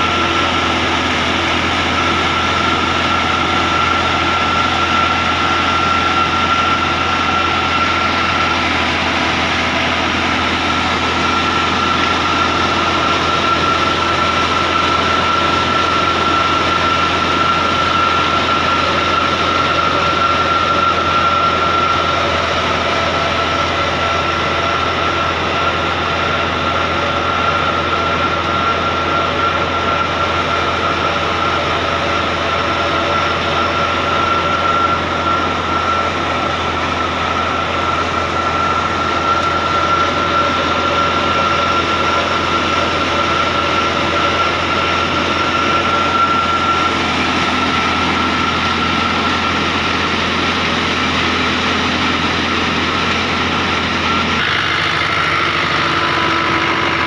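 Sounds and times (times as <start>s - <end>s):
steady high whine: 0.0s - 57.0s
thresher machinery running: 0.0s - 57.0s
tractor diesel engine running: 0.0s - 57.0s.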